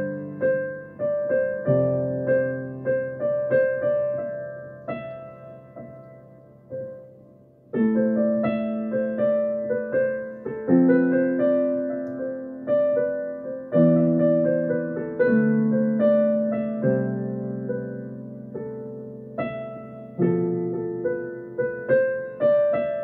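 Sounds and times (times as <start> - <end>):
slow solo piano melody: 0.0 - 23.0.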